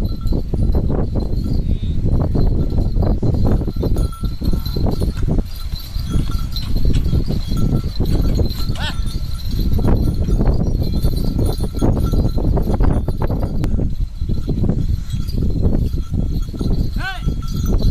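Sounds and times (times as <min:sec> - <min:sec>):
small bells ringing: 0:00.0 - 0:17.9.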